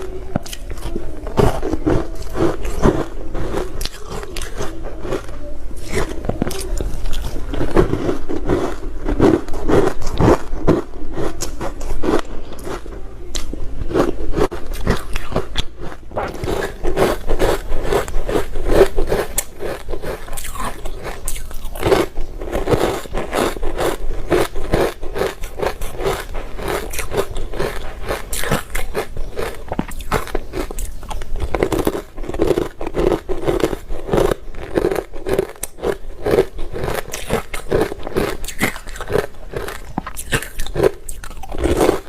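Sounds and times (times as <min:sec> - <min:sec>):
ice being chewed: 0:00.0 - 0:42.0.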